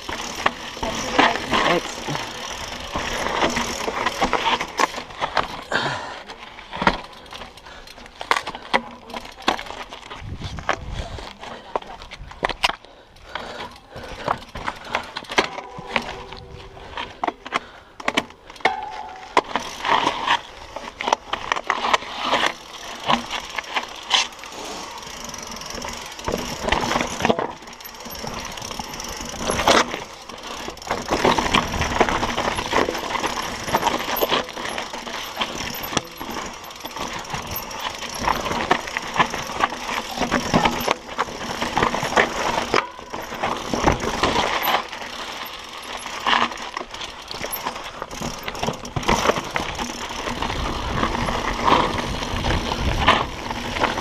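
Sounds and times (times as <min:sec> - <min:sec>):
bike knocking and clattering: 0:00.0 - 0:54.0
tyres crunching over gravel: 0:00.0 - 0:54.0.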